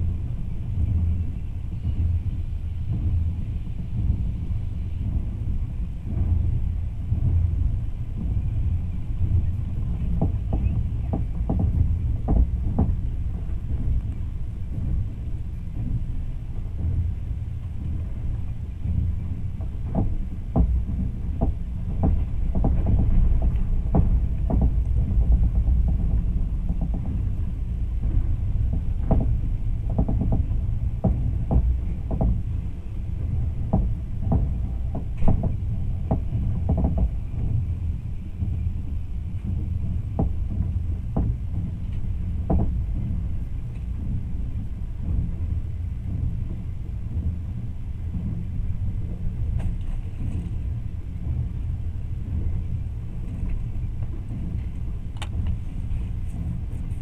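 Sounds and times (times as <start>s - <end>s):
train low rumble: 0.0s - 57.0s
wheels clacking on track: 0.0s - 57.0s.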